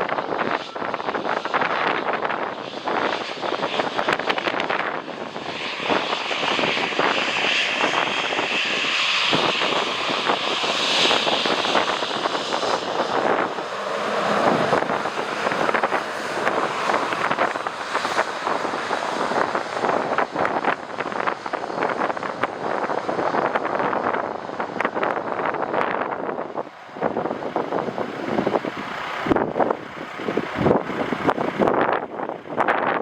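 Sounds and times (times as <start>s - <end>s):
jet engines whining: 0.0s - 32.0s
wind buffeting microphone: 0.0s - 33.0s.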